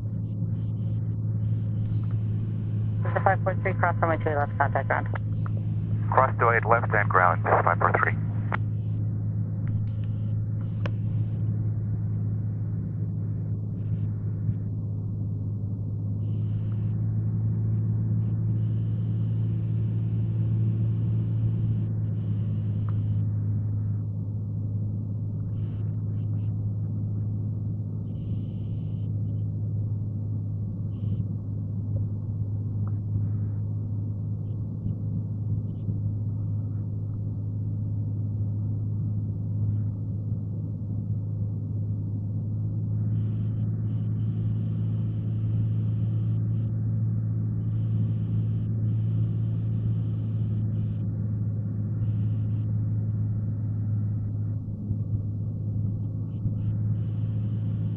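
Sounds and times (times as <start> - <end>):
plane engine and propeller drone: 0.0 - 57.9.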